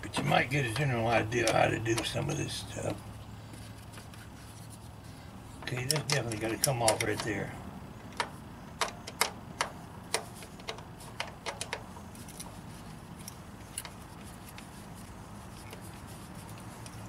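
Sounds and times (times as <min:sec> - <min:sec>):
hand tool clicking on engine parts: 0:00.0 - 0:03.0, 0:05.6 - 0:17.0.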